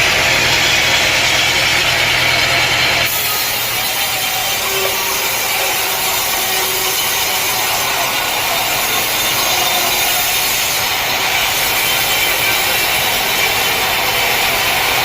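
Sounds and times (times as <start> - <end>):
sawmill saw cutting wood: 0.0 - 15.0.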